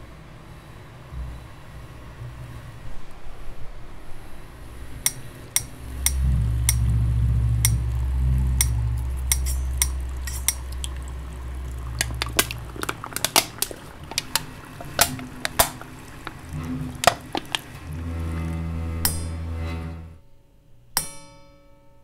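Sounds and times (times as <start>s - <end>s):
low steady hum: 0.0s - 20.4s.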